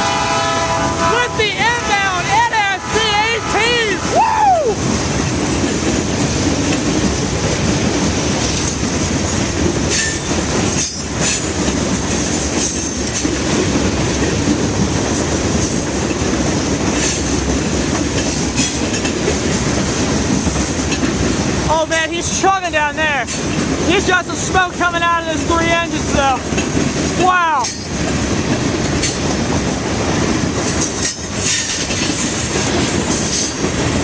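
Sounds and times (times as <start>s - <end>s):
steel wheels rumbling on rail: 0.0s - 34.0s.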